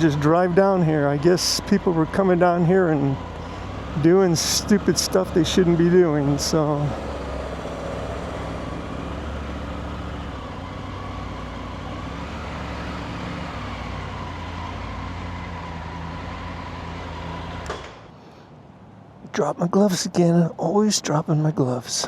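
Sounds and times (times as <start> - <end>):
motorcycle engine running at low revs: 0.0 - 17.9.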